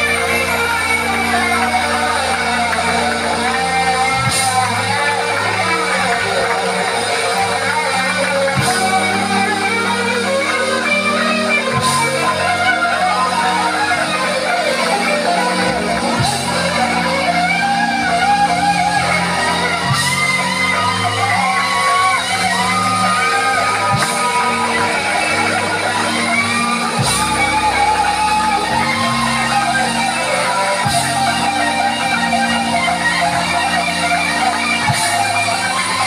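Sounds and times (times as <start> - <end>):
blues band playing: 0.0 - 36.0
electric guitar lead line: 0.0 - 36.0.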